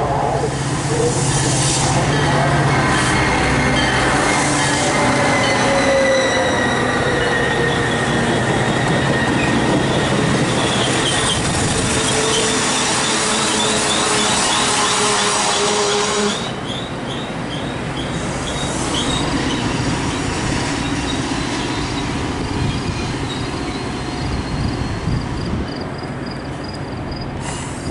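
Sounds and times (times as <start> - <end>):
train wheels rumbling on rail: 0.0 - 27.9
high wheel and brake squeals: 2.1 - 27.9.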